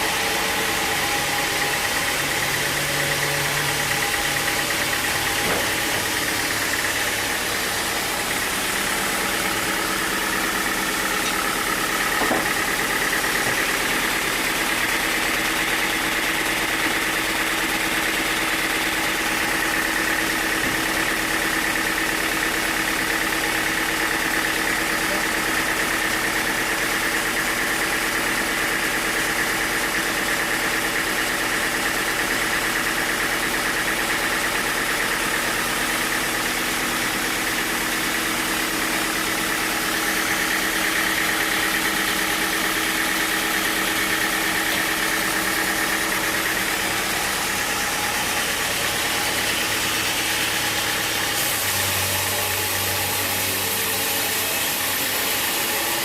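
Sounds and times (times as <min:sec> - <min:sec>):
sawmill saw humming and whining: 0:00.0 - 0:56.0.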